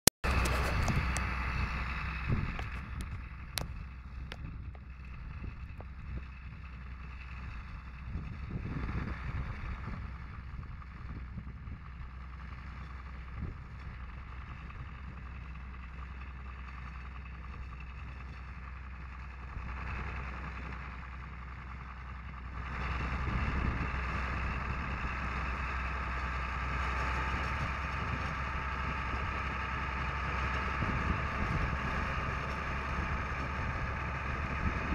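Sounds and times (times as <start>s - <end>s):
tractor diesel engine droning: 0.2s - 34.9s.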